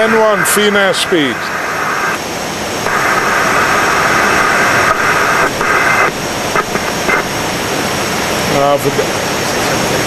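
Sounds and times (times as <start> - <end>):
airflow and engine hiss: 0.0 - 10.0
faint high steady tones: 0.0 - 10.0.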